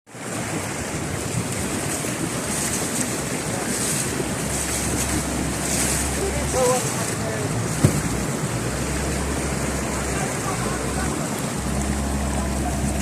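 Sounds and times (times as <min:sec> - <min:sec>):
heavy rain pouring: 0:00.1 - 0:13.0
wind rumble on microphone: 0:00.1 - 0:13.0.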